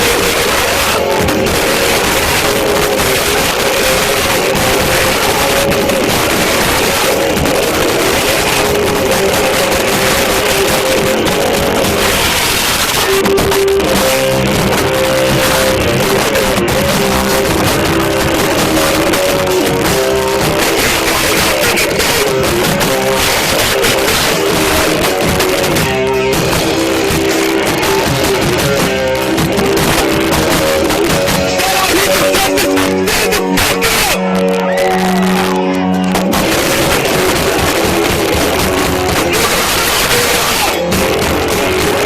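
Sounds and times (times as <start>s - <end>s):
distorted electric guitar: 0.0s - 42.0s
drums: 0.0s - 42.0s.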